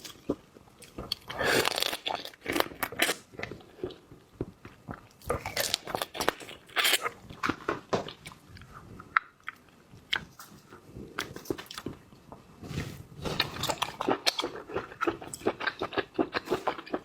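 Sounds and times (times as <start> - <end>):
crunching and chewing shellfish: 0.0 - 4.1, 4.7 - 12.0, 13.2 - 17.0.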